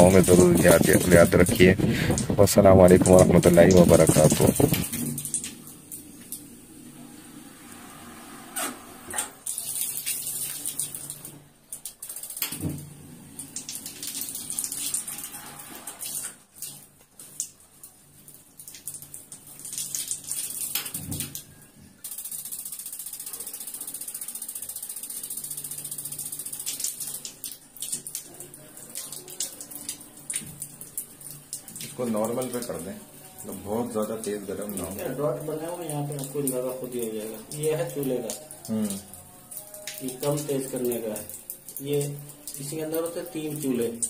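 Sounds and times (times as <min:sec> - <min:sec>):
water running from tap: 0:00.0 - 0:44.0.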